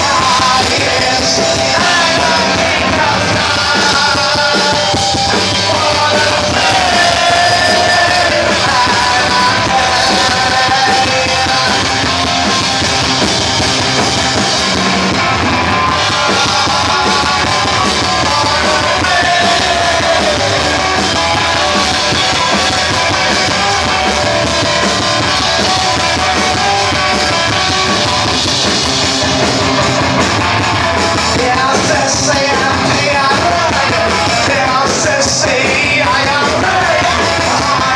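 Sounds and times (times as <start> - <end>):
person singing: 0.0 - 13.3, 13.9 - 37.9
drums: 0.0 - 37.9
punk rock band playing: 0.0 - 37.9.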